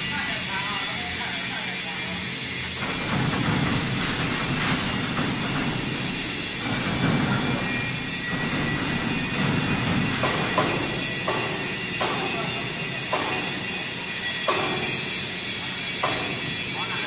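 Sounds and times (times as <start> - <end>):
steel on roller rumble: 2.0 - 16.8.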